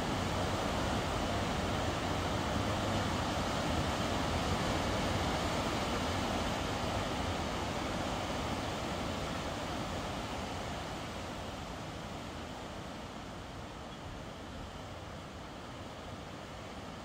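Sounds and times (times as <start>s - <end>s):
river rushing roar: 0.0s - 17.0s.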